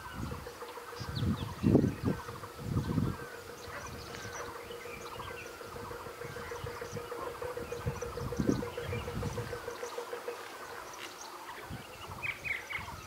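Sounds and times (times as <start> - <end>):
small birds chirping: 0.0 - 13.0
steady hum: 1.1 - 11.8.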